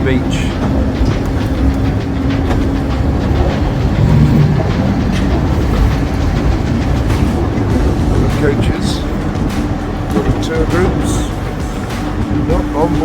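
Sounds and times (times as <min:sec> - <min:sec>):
railway car wheels rumbling on rails: 0:00.0 - 0:13.0.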